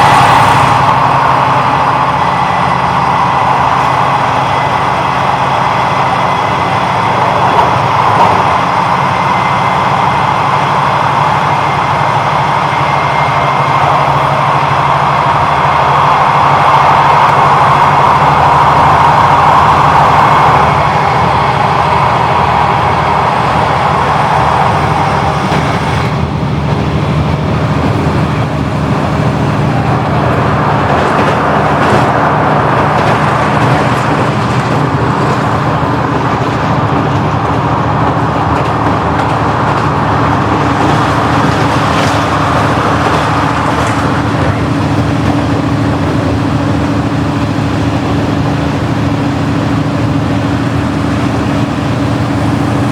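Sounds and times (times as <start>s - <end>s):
steady higher drone: 0.0s - 52.9s
vehicle engine humming: 0.0s - 52.9s.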